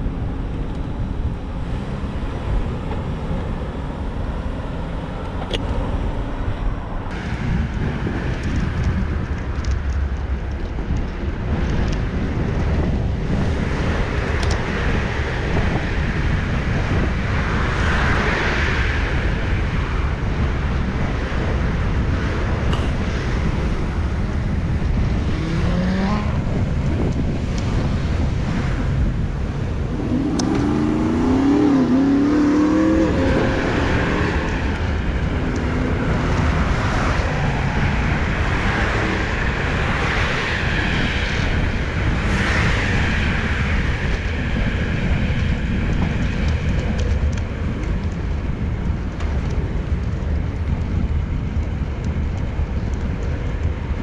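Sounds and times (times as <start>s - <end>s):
wind on the microphone: 0.0s - 54.0s
cars passing: 1.2s - 50.0s.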